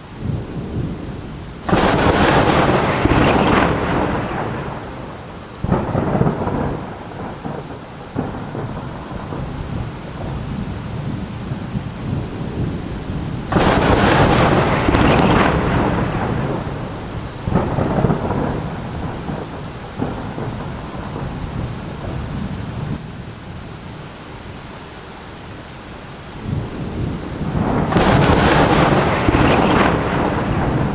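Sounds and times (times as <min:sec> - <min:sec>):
steady rain: 0:00.0 - 0:30.9
rolling thunder: 0:00.2 - 0:23.0, 0:26.4 - 0:30.9.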